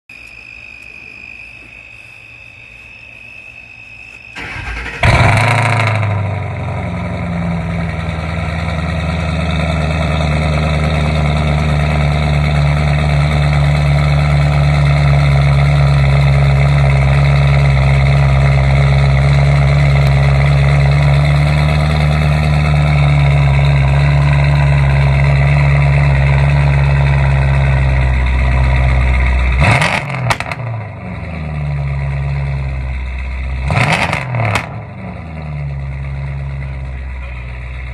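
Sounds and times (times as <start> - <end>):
car engine cranking and idling: 4.4 - 37.9.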